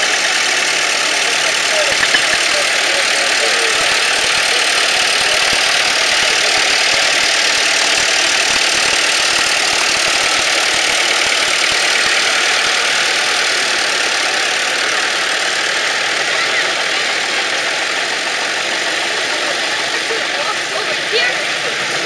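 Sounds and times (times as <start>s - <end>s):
tractor engines driving past: 0.0s - 22.0s.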